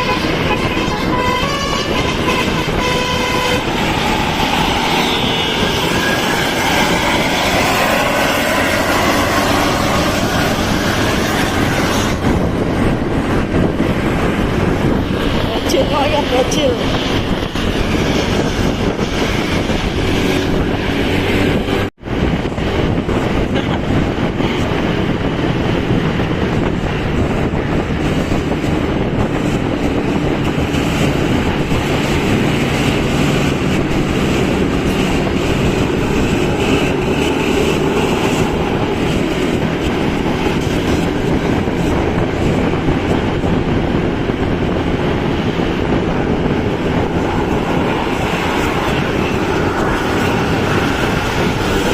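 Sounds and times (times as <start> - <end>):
moving vehicle rumble: 0.0 - 51.9.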